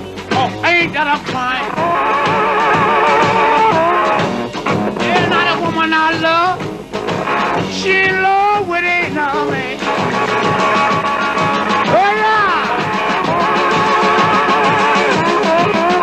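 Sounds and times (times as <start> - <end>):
slide electric guitar: 0.0 - 16.0
steady drum beat: 0.0 - 16.0.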